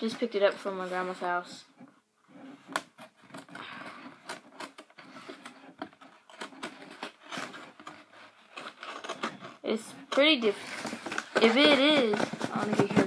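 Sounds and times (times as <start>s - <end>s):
knife cutting cardboard: 1.8s - 13.0s.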